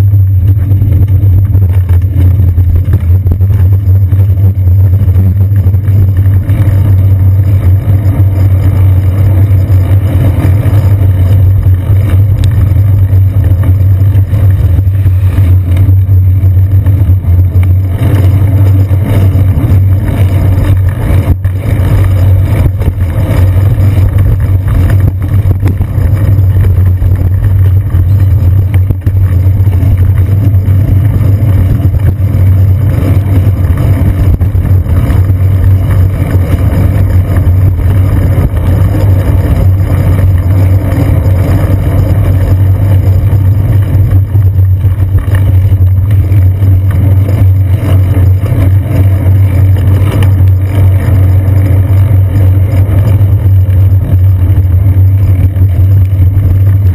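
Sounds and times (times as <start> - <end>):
bicycle rumble on wet streets: 0.0 - 56.9.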